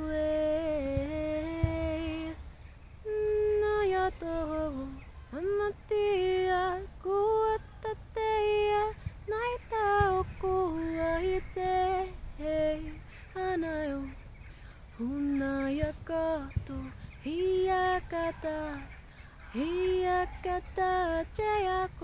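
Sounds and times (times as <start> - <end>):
woman singing wordless syllables: 0.0 - 14.3, 14.9 - 22.0.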